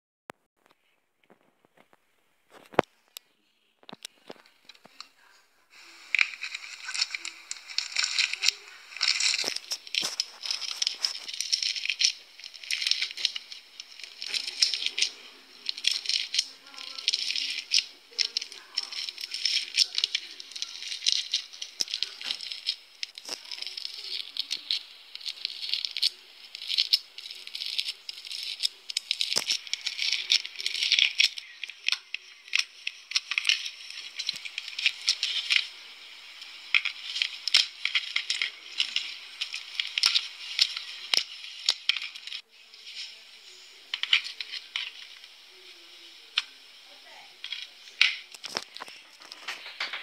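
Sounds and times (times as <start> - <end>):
slime crackling and popping: 1.3 - 50.0.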